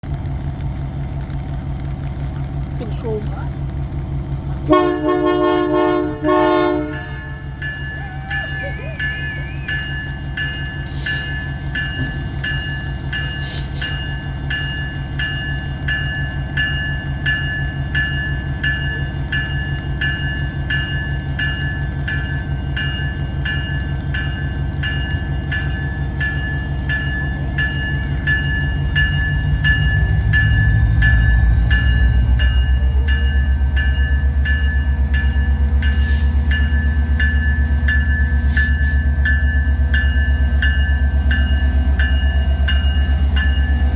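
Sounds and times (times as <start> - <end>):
train rumbling past: 0.0 - 43.9
bell ringing: 6.9 - 43.9.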